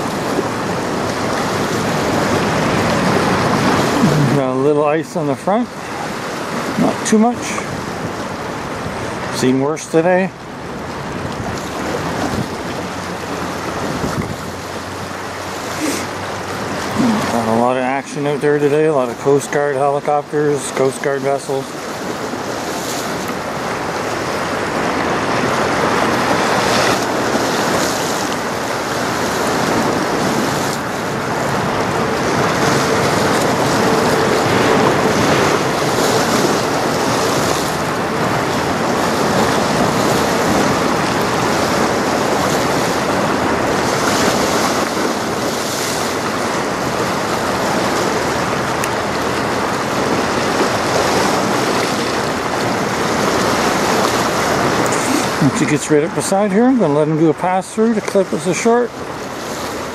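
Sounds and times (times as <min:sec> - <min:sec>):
lake water splashing: 0:00.0 - 0:59.9
wind buffeting microphone: 0:05.6 - 0:19.2, 0:21.7 - 0:56.9.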